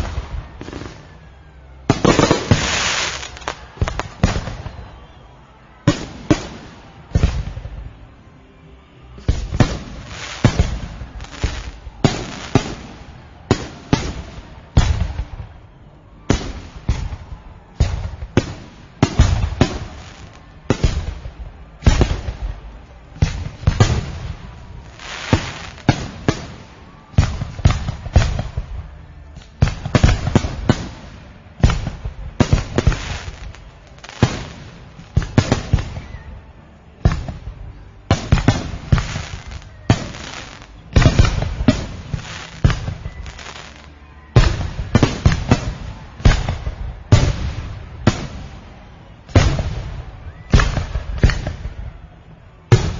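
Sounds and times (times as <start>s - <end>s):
fireworks exploding: 0.0s - 8.2s, 9.2s - 36.4s, 37.0s - 52.0s, 52.7s - 52.9s.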